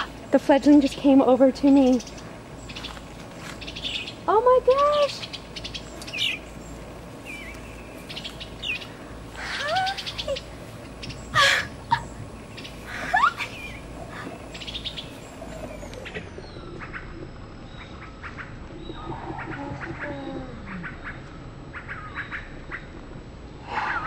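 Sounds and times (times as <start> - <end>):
birds chirping and chattering: 0.0 - 24.0.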